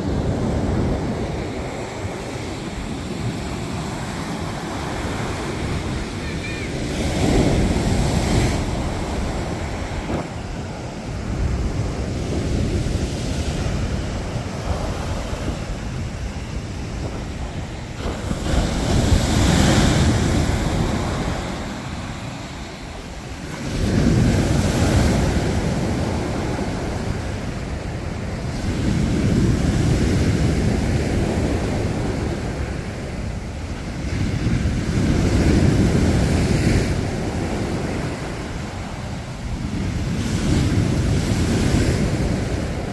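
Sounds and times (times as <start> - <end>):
surf breaking on beach: 0.0 - 42.9
wind rumble on microphone: 0.0 - 42.9.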